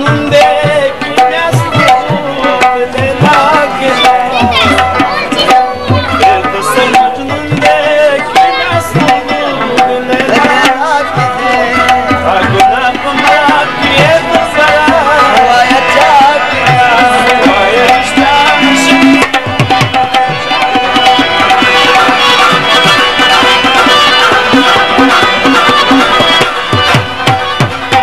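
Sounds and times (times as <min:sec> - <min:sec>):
tabla playing rhythm: 0:00.0 - 0:28.0
wavering melody: 0:00.0 - 0:28.0.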